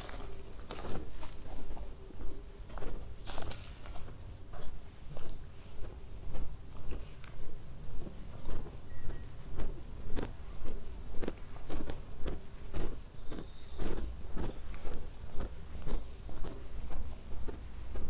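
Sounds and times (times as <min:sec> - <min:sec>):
footsteps walking: 0:00.0 - 0:18.0.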